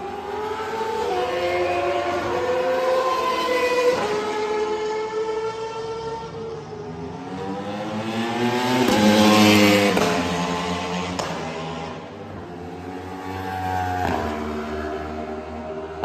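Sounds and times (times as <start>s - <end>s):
another motorcycle engine: 0.0s - 16.0s
racing motorcycle passing: 0.0s - 16.0s.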